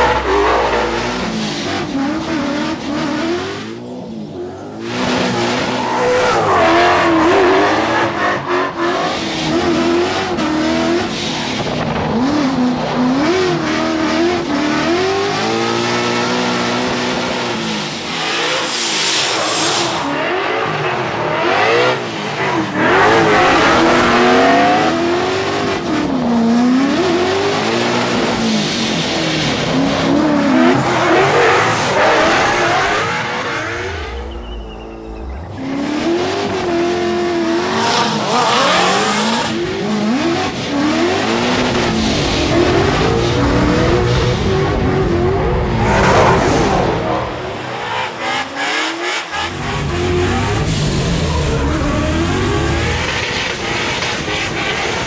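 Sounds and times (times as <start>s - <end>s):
car engines revving hard: 0.0s - 55.0s.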